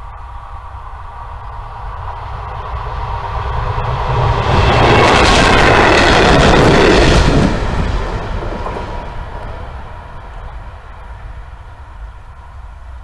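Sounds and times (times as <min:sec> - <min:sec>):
train wheels rumbling and clattering: 0:00.0 - 0:13.0.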